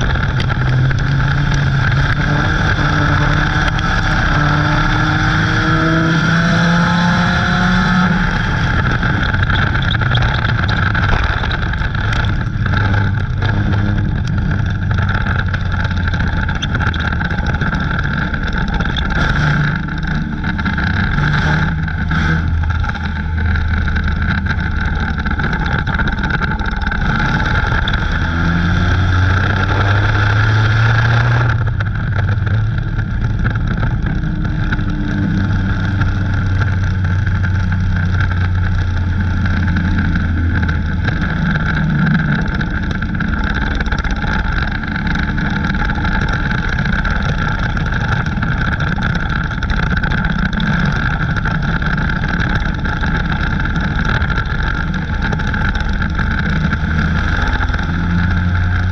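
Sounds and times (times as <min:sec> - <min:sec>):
race car engine running hard: 0:00.0 - 0:58.9.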